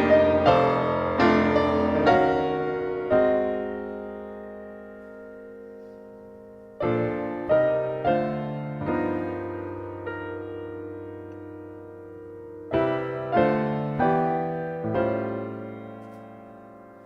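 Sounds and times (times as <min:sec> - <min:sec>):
slow piano ballad: 0:00.0 - 0:17.0.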